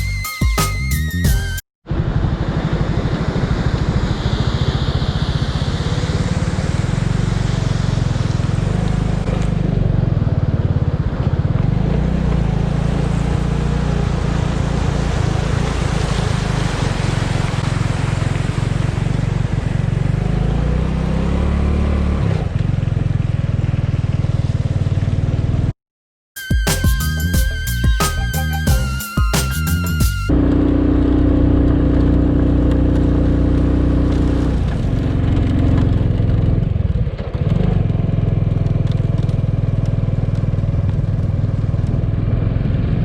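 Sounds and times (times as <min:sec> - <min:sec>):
motorcycle engine rumble: 0:01.9 - 0:21.0, 0:21.9 - 0:25.7, 0:30.2 - 0:43.0.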